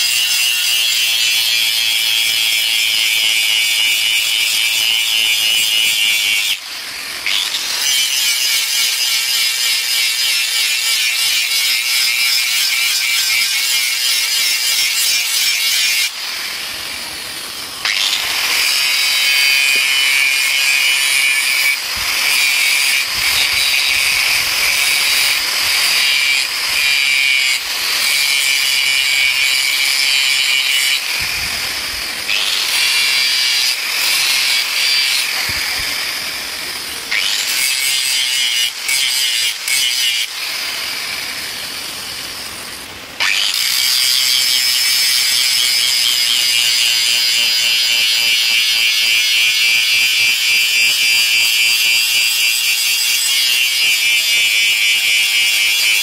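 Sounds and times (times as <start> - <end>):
angle grinder grinding metal: 0.0 - 56.0.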